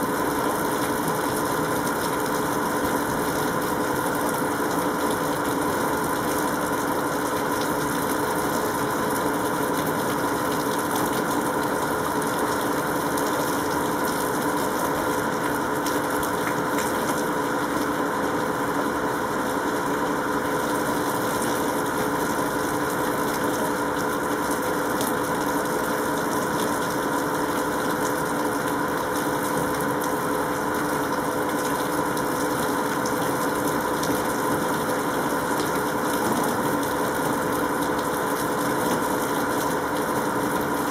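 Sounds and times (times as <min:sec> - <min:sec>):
steady mechanical hum: 0:00.0 - 0:40.9.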